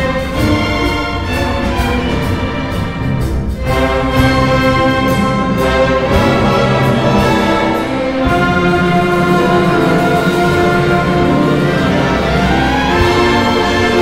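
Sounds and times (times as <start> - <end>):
brass: 0.0 - 14.0
violins: 0.0 - 14.0
woodwinds: 0.0 - 14.0.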